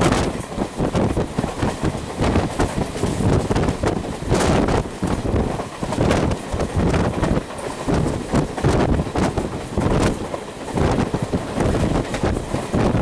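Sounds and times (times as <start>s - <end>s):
train coach rumbling on rails: 0.0s - 13.0s
wind buffeting microphone: 0.0s - 13.0s.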